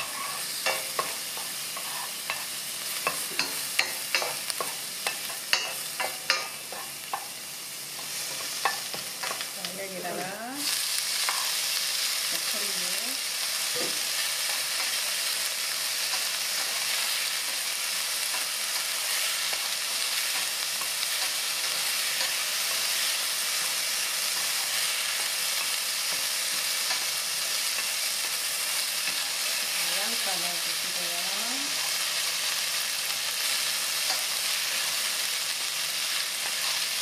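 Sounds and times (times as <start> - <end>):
food sizzling in frying pan: 0.0 - 37.0.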